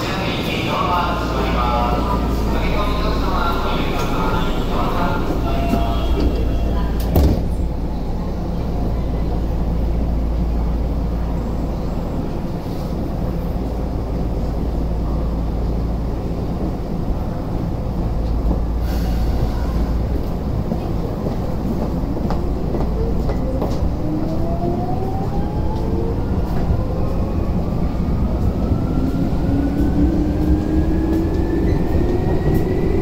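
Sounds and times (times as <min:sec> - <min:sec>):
train hum and rumble: 0:00.0 - 0:33.0.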